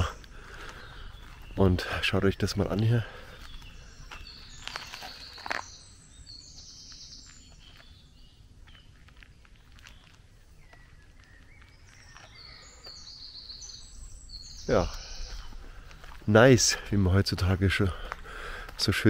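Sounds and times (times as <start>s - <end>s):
faint outdoor background: 0.0s - 19.0s
songbirds singing: 0.0s - 19.0s.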